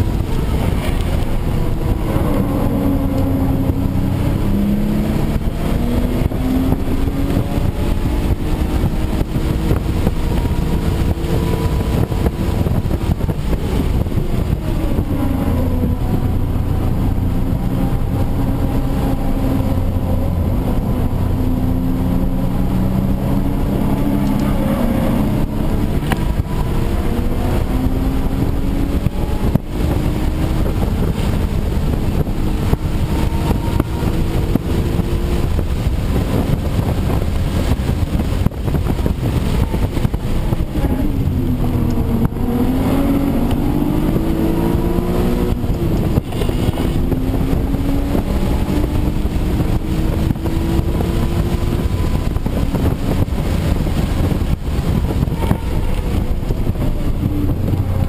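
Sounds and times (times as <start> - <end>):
car engine revving through gears: 0.0 - 58.0
road and wind noise: 0.0 - 58.0.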